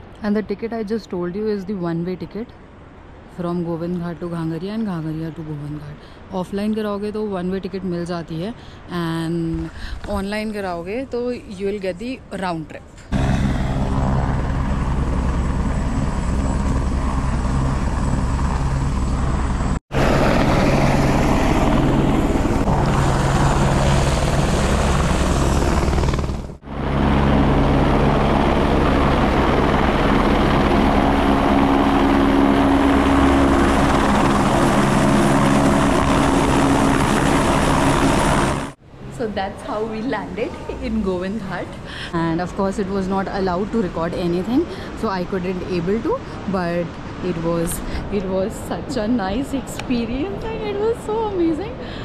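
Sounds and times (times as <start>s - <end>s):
helicopter rotor and turbine: 0.0s - 52.0s.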